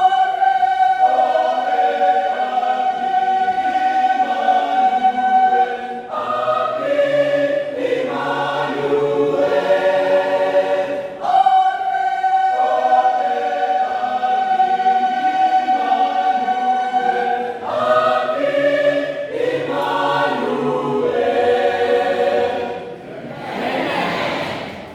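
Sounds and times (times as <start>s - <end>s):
choir singing in harmony: 0.0s - 24.9s.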